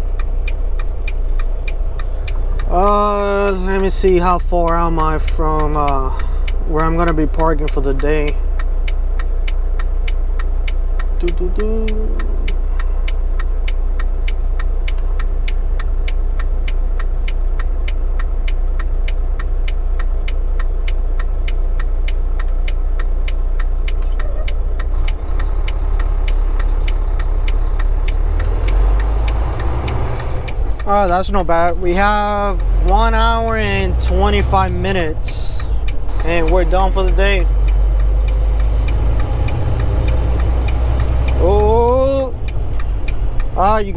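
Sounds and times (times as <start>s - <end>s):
truck engine drone: 0.0s - 43.9s
turn signal clicking: 0.0s - 43.9s.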